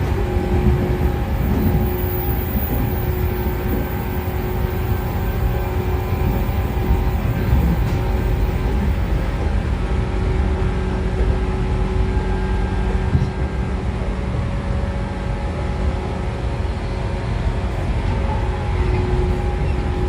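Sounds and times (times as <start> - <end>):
train bogies rumbling on rails: 0.0 - 20.0
train motor whine: 0.0 - 20.0.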